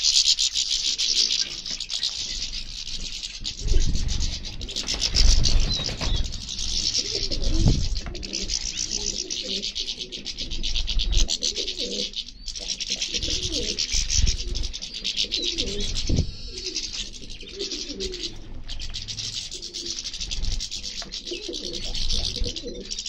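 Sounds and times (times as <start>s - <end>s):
doves cooing: 0.0s - 23.0s
wingbeats: 0.0s - 23.0s.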